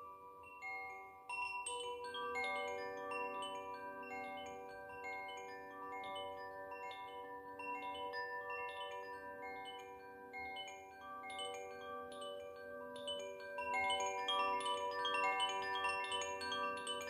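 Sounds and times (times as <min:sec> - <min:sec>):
wind chime ringing: 0:00.0 - 0:17.0.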